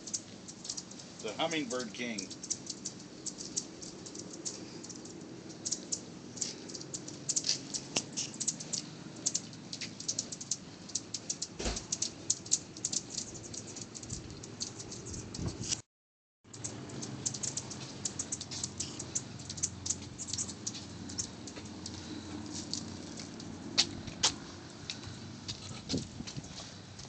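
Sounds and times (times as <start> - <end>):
hummingbirds chattering: 0.0 - 15.7, 16.5 - 25.8.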